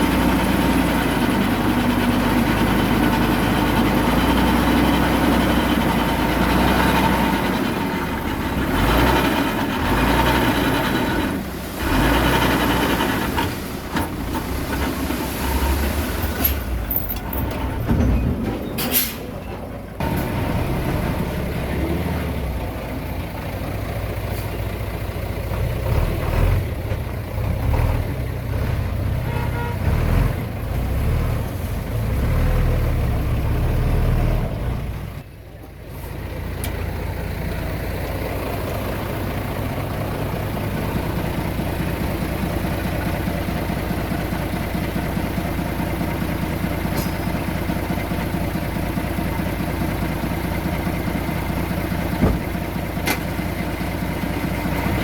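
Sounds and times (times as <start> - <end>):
heavy machinery diesel engine: 0.0 - 55.0.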